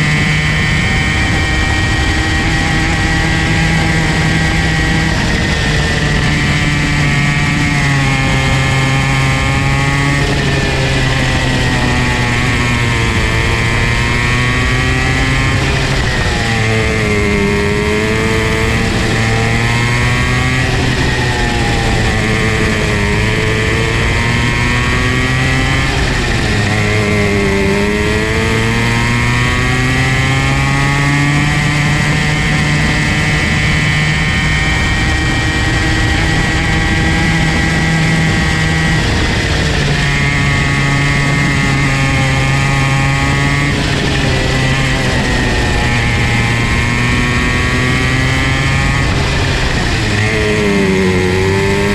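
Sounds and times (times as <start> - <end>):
go-kart engine revving: 0.0 - 51.9.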